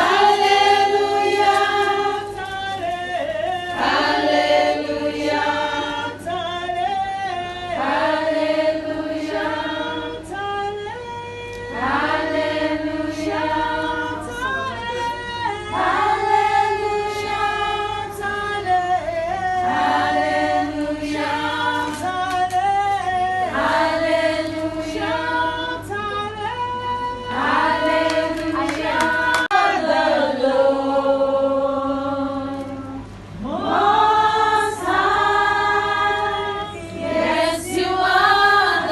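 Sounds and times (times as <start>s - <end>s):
group of voices singing: 0.0s - 26.1s, 26.9s - 38.9s.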